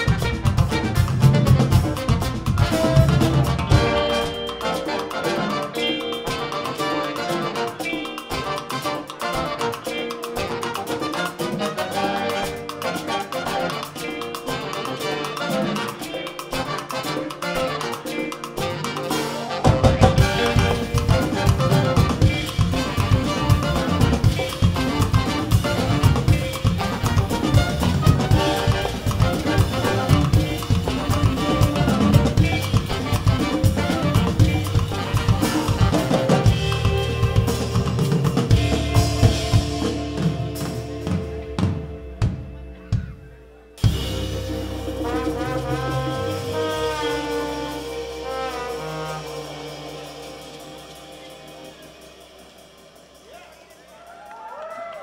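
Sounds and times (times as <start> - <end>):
tenor saxophone: 0.0 - 43.2, 43.8 - 52.9
trombone: 0.0 - 43.2, 43.8 - 53.9
electric guitars: 0.0 - 52.8
drum kit: 0.0 - 54.7
congas: 0.0 - 55.0
trumpet: 0.0 - 55.0.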